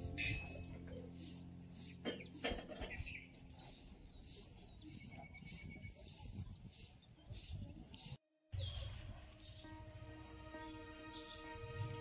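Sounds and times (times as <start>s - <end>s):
faint music: 0.0s - 7.6s, 8.6s - 12.0s
small birds chirping: 0.0s - 12.0s.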